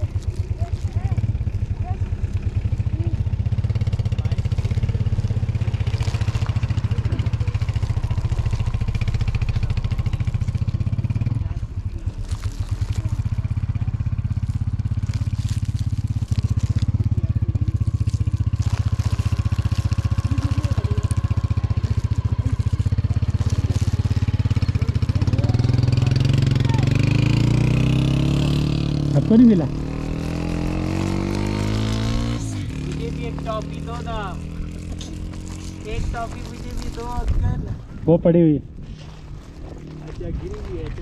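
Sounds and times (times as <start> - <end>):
vehicle engine idling: 0.0 - 41.0.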